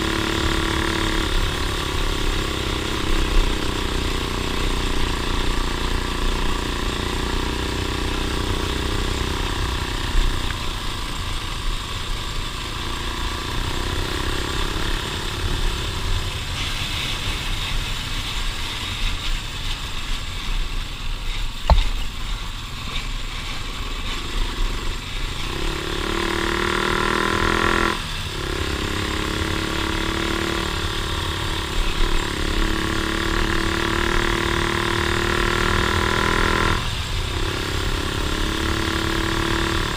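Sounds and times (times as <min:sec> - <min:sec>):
off-road vehicle engine revving: 0:00.0 - 0:17.4, 0:24.0 - 0:39.9.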